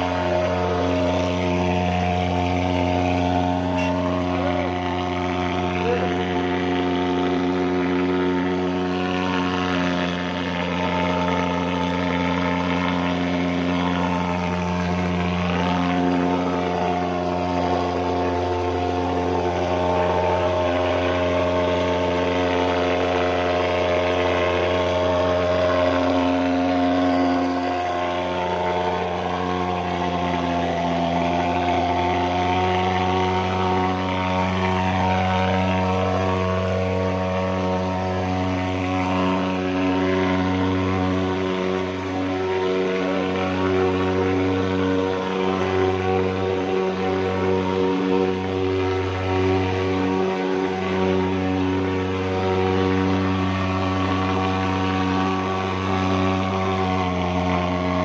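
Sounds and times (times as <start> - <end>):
thermal fogger droning: 0.0 - 58.0.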